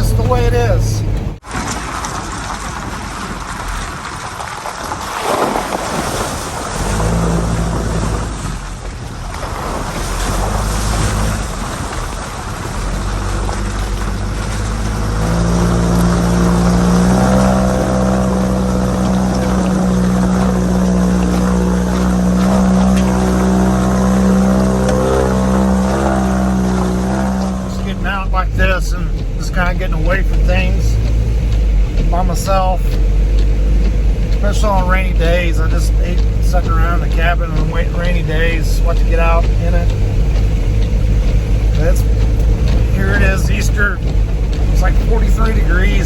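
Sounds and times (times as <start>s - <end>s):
engine low hum: 0.0s - 4.4s, 5.1s - 46.0s
wind and road noise: 0.0s - 46.0s.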